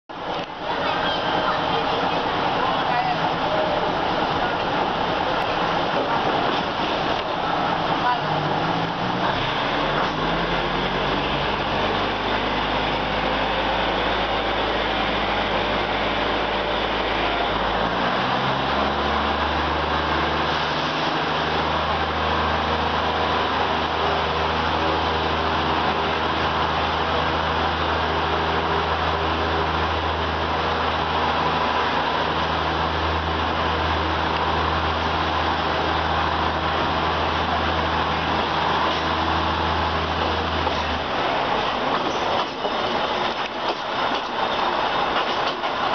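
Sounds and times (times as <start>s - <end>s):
diesel train engine running: 0.1s - 45.9s
train running noise: 0.1s - 45.9s.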